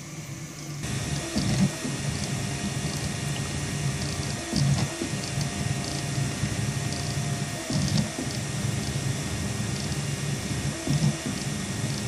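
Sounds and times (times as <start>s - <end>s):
stepper motors humming and whining: 0.0s - 12.0s.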